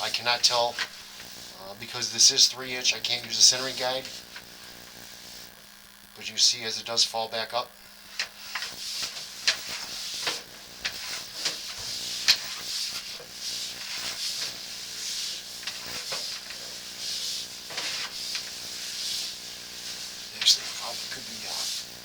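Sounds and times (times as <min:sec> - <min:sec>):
cable rubbing and hissing in drain: 0:00.0 - 0:05.0, 0:08.0 - 0:22.0.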